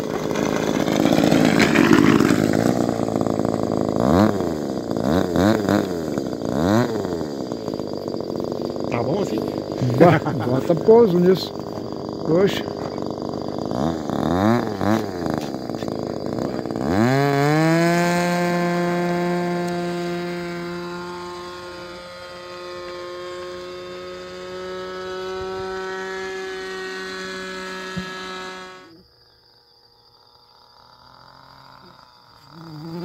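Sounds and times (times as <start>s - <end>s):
model plane engine droning: 0.0s - 33.0s.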